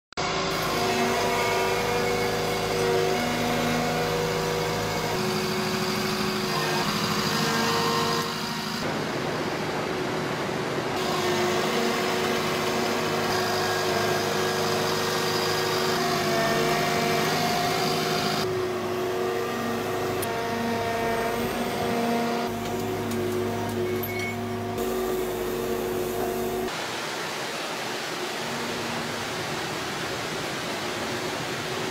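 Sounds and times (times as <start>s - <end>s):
excavator diesel engine and hydraulics: 0.2s - 26.8s.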